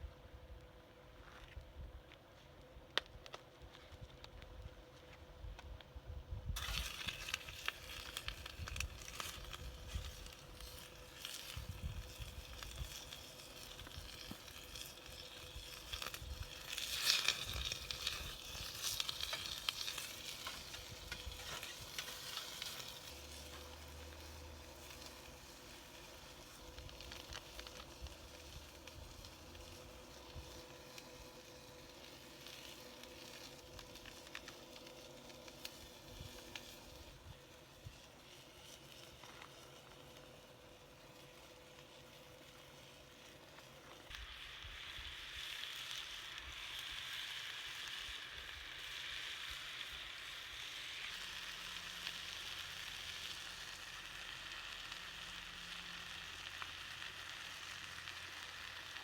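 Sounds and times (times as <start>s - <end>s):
food sizzling in a pot: 6.6s - 59.0s.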